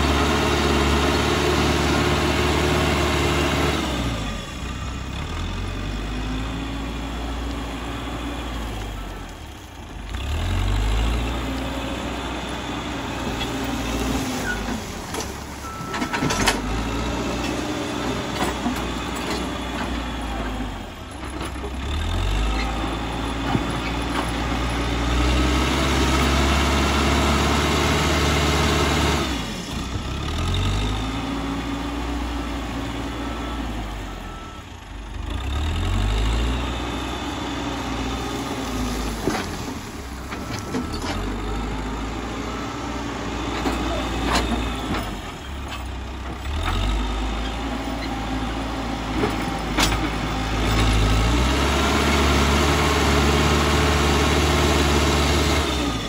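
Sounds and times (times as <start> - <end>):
backhoe diesel engine under load: 0.0 - 56.0.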